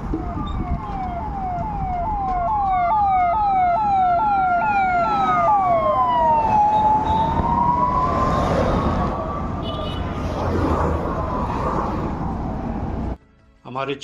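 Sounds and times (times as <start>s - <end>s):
slow wailing siren: 0.0s - 9.6s, 10.2s - 13.2s
fast sweeping siren: 0.0s - 13.1s
road noise: 0.0s - 13.8s.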